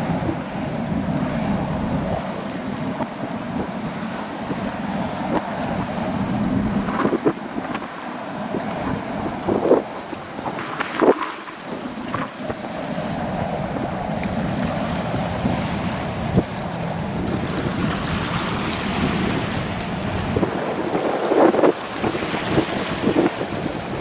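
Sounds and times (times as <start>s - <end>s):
ferry engines and water spray: 0.0s - 24.0s
wind buffeting microphone: 0.0s - 24.0s.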